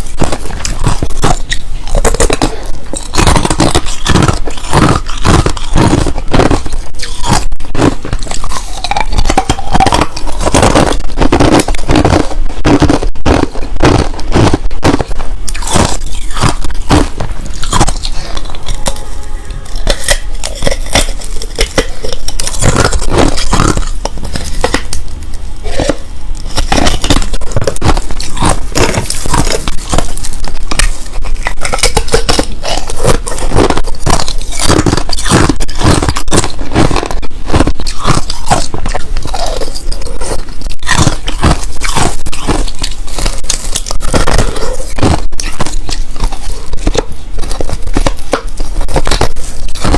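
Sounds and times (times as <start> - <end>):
chewing crushed ice: 0.0 - 49.9.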